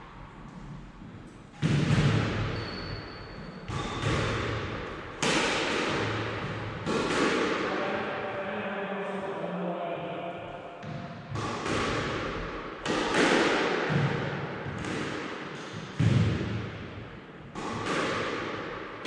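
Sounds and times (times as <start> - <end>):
squash ball knocks echoing: 0.5 - 8.1, 10.8 - 19.0.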